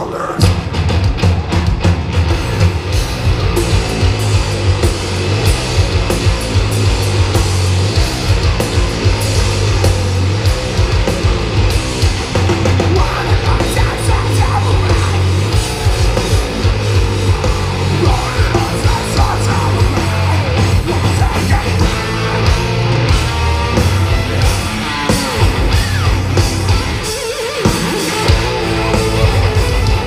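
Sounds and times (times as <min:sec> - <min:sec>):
live heavy metal band: 0:00.0 - 0:30.0.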